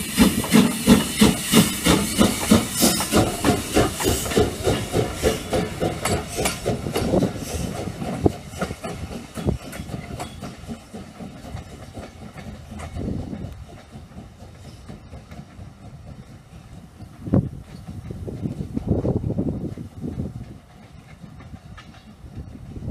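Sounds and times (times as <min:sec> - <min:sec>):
steam locomotive exhaust beats: 0:00.0 - 0:22.9
train wheels clicking on rail joints: 0:00.0 - 0:22.9.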